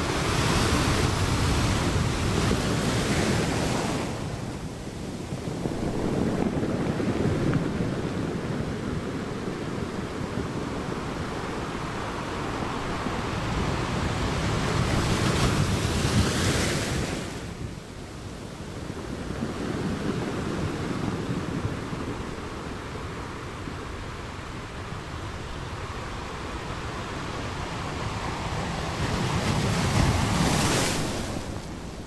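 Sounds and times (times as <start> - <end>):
ocean waves breaking: 0.0 - 17.7, 18.7 - 32.0.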